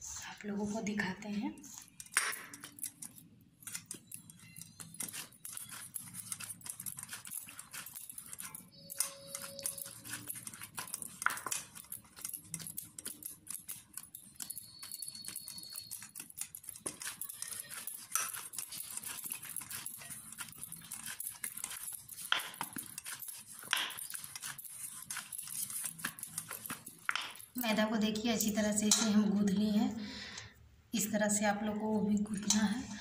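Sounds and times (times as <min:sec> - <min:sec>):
hands kneading dough in a bowl: 0:00.4 - 0:29.7.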